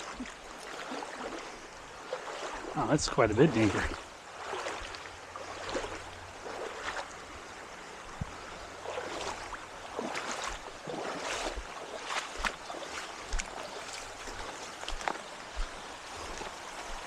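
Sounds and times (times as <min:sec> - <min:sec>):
creek water running: 0:00.0 - 0:17.0
water sloshing and splashing: 0:00.0 - 0:17.0.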